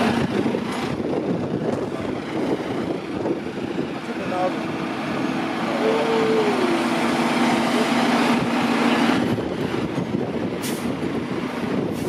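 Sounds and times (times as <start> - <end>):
fire engine diesel engine running: 0.0 - 12.0.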